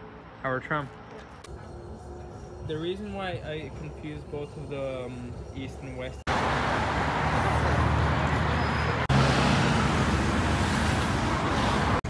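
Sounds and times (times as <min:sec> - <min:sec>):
engines rumbling: 0:00.0 - 0:12.0.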